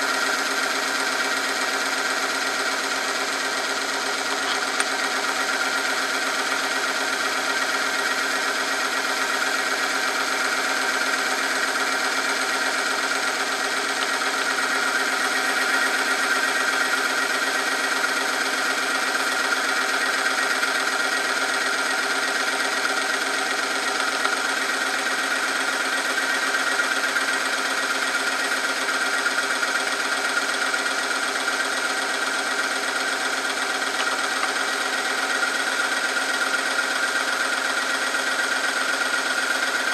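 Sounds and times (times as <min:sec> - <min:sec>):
machine hum with high whine: 0:00.0 - 0:39.9.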